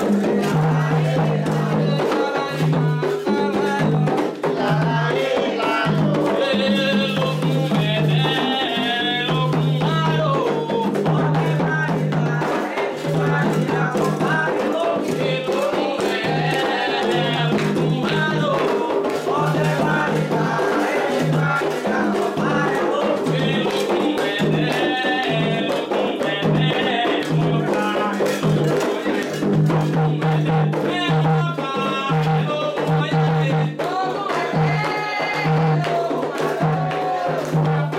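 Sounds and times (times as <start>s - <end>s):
hand drums playing: 0.0s - 37.9s
voices singing: 0.0s - 37.9s.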